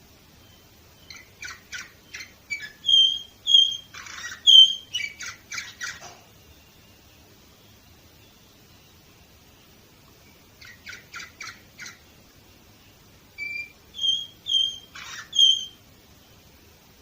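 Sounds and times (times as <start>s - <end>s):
canary singing: 0.4s - 16.4s.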